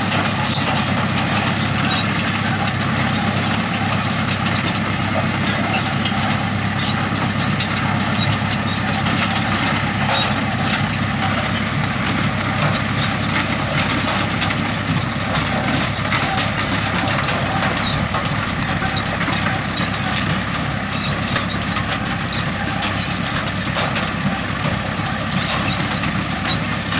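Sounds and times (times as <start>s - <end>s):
machinery clatter: 0.0s - 26.9s
tractor diesel engine running: 0.0s - 26.9s.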